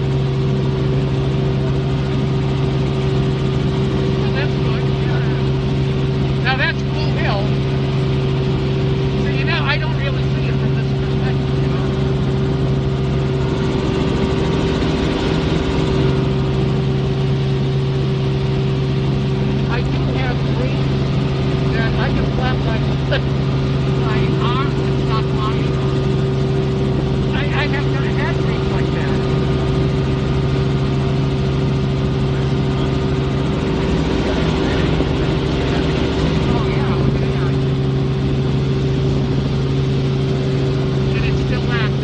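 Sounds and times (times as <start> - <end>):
fast low blade flutter: 0.0 - 42.0
helicopter engine and rotor drone: 0.0 - 42.0.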